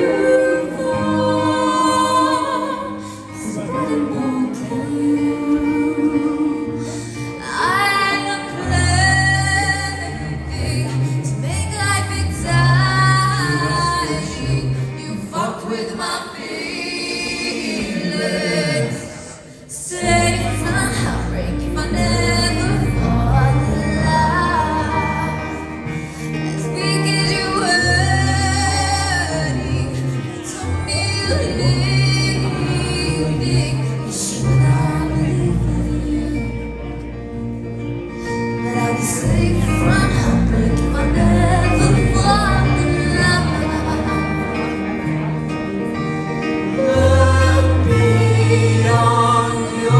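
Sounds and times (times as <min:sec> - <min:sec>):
woman singing lead vocal: 0:00.0 - 0:37.2, 0:38.4 - 0:49.9
live rock band: 0:00.0 - 0:49.9
sung harmonies: 0:00.0 - 0:49.9.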